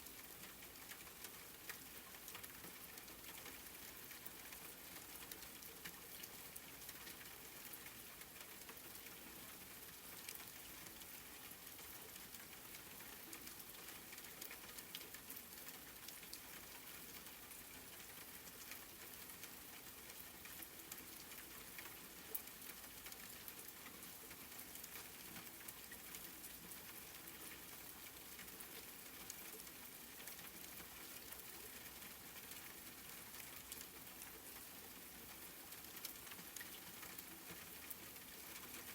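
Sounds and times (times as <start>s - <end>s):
soft steady rain: 0.0s - 38.9s.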